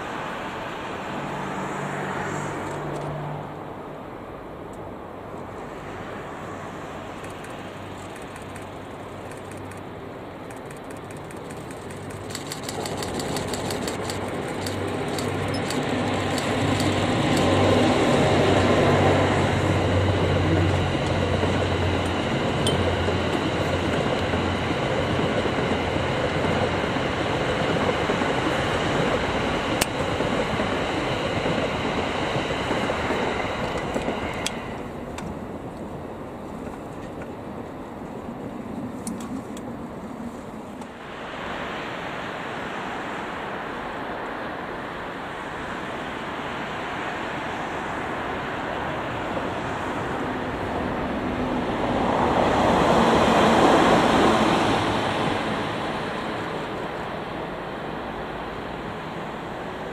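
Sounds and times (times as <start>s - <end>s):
low locomotive hum: 0.0s - 59.9s
train wheels rumbling on track: 0.0s - 59.9s.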